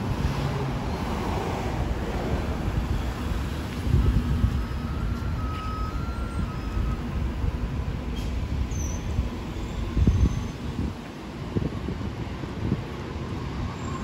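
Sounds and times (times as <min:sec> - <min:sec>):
traffic engines rumbling: 0:00.0 - 0:14.0.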